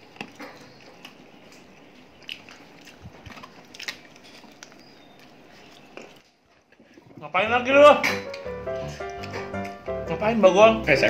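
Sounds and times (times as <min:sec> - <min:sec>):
child chewing chicken: 0:00.0 - 0:07.3, 0:08.2 - 0:10.1.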